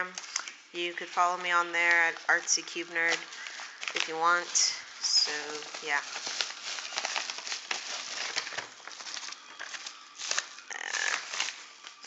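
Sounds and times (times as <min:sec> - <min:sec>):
paper envelope crinkling: 0:00.0 - 0:12.0.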